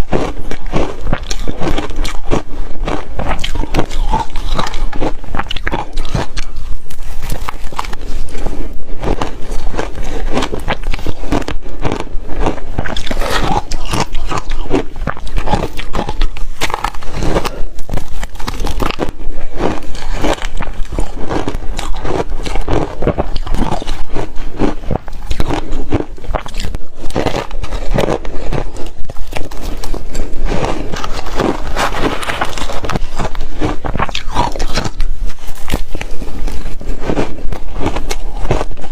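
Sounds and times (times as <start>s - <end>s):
person crunching ice: 0.0s - 38.9s.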